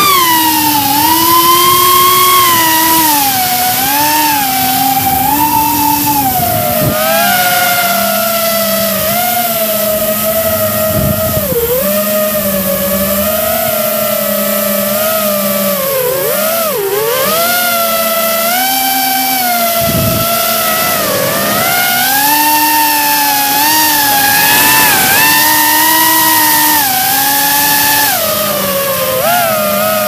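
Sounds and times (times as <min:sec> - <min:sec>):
electric motor propeller whine: 0:00.0 - 0:30.0
low steady motor tone: 0:00.0 - 0:30.0.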